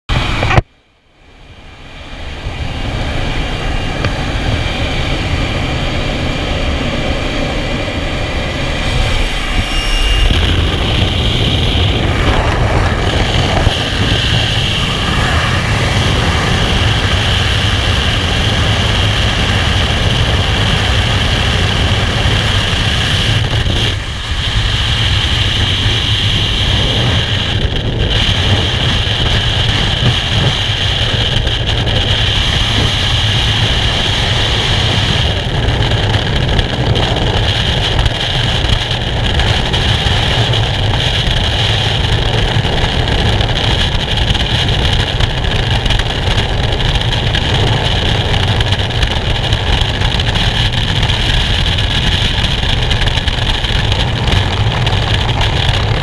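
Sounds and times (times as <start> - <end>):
freefall wind buffeting microphone: 0.1 - 56.0
plane engine: 0.1 - 56.0
rushing air at open door: 0.1 - 56.0.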